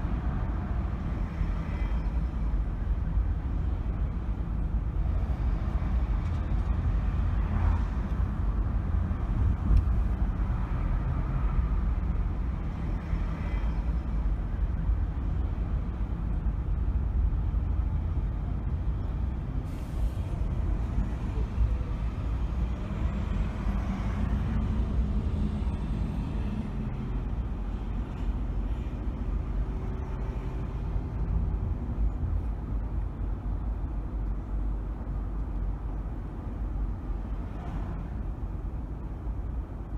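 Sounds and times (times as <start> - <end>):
car road and engine rumble: 0.0 - 39.9
vehicles passing: 0.0 - 39.9.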